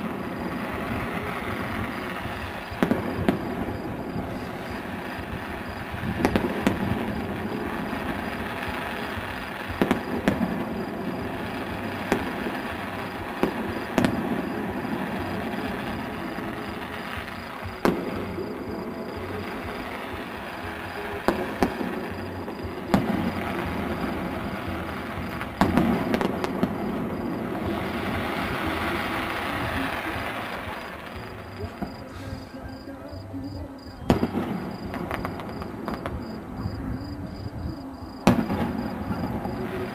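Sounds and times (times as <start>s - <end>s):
firework shells bursting: 0.0s - 32.7s
steady background hiss: 0.0s - 39.9s.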